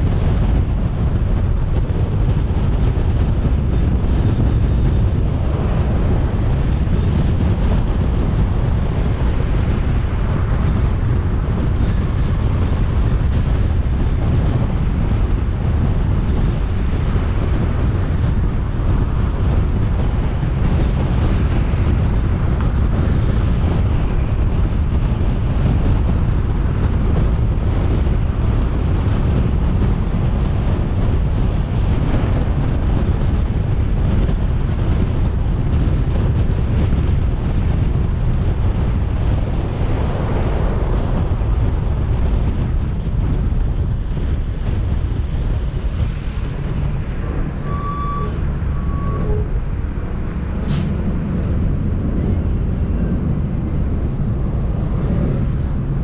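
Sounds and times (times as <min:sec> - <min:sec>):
car driving road and wind noise: 0:00.0 - 0:56.0.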